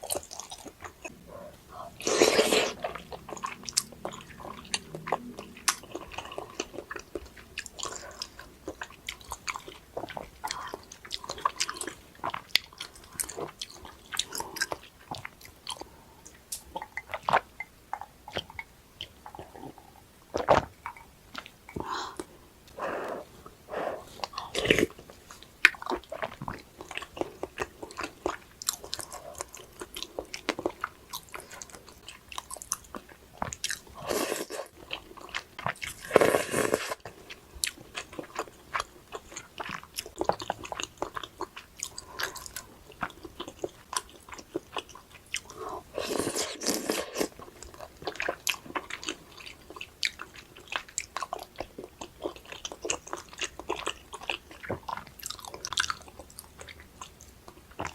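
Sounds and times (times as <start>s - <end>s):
person chewing and crunching: 0.0s - 22.3s, 23.0s - 57.9s.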